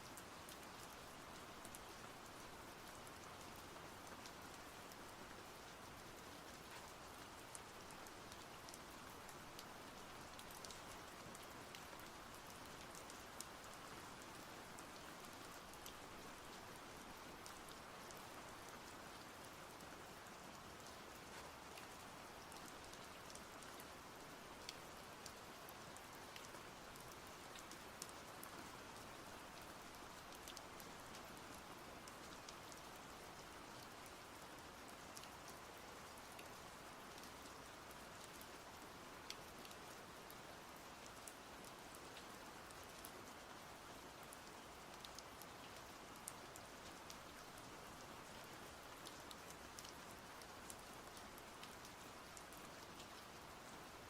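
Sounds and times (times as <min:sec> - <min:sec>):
soft rain hiss: 0:00.0 - 0:54.0.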